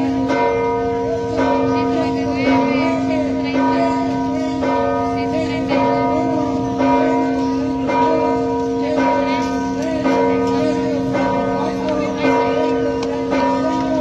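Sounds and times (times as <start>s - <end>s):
large church bell tolling: 0.0s - 14.0s.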